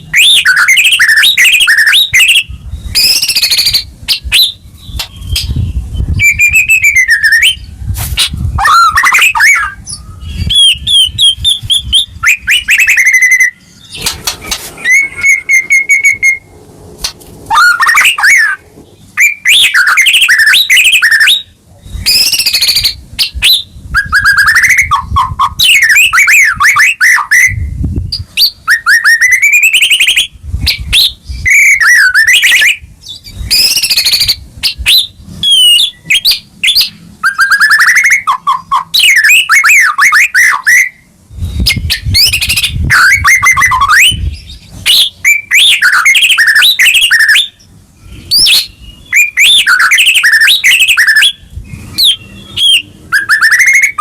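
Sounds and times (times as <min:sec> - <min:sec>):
songbird whistles and trills: 0:00.0 - 0:16.5, 0:17.5 - 0:54.0.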